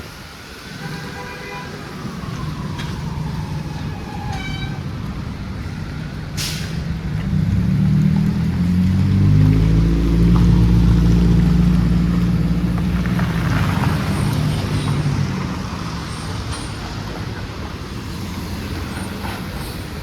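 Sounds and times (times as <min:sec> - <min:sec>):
street traffic noise: 0:00.0 - 0:20.0
large vehicle engine drone: 0:02.0 - 0:20.0.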